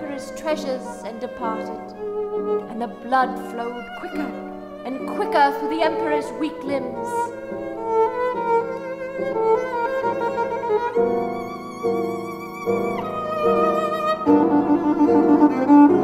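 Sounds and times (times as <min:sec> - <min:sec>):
piano chords: 0:00.0 - 0:16.0
violin sustained notes: 0:00.0 - 0:16.0.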